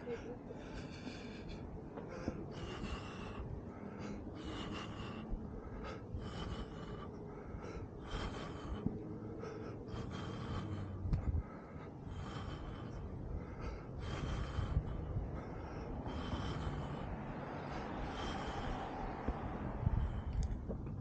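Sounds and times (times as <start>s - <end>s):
low rumble: 0.0s - 21.0s
man breathing heavily: 0.0s - 21.0s.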